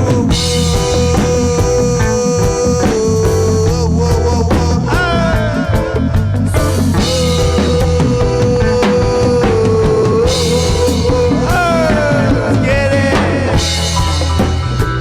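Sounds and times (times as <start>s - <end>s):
drum kit and bass groove: 0.0s - 15.0s
live reggae band playing: 0.0s - 15.0s.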